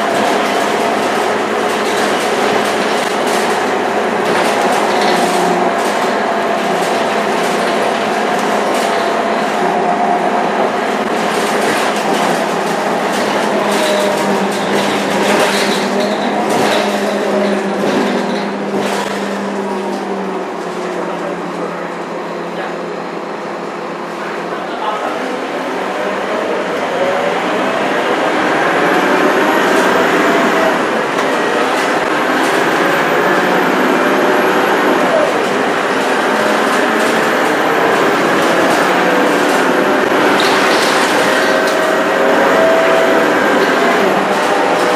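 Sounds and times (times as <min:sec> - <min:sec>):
bus engine and drivetrain noise: 0:00.0 - 0:44.9
road noise and rattles: 0:00.0 - 0:44.9.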